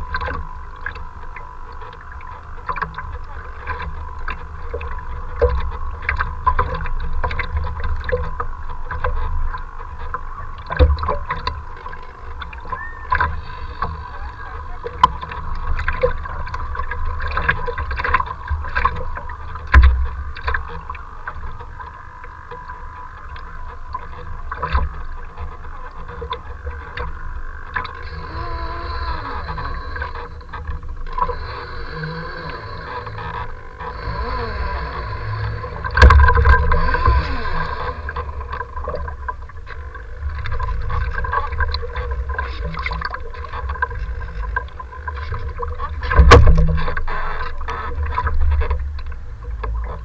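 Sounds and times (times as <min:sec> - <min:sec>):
choppy water splashing: 0:00.0 - 0:50.0
faint steady whine: 0:00.0 - 0:50.0.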